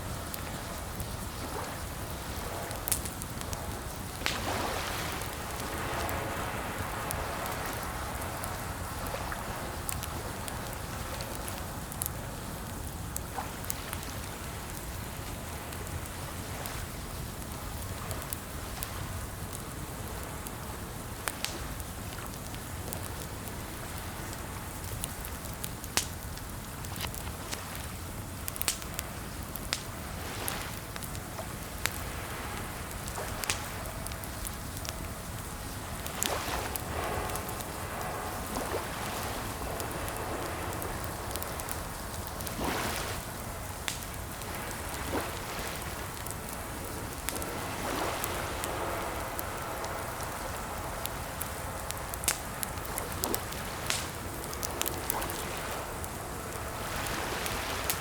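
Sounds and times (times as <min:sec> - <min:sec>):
rain-like hiss: 0:00.0 - 0:58.0.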